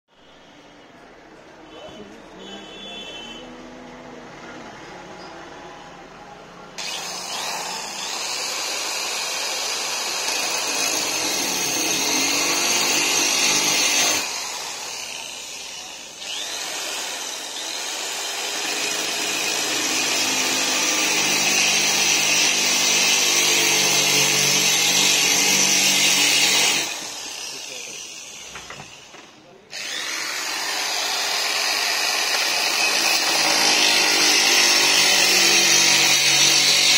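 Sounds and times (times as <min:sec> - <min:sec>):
drill grinding through glass: 0:06.8 - 0:36.9.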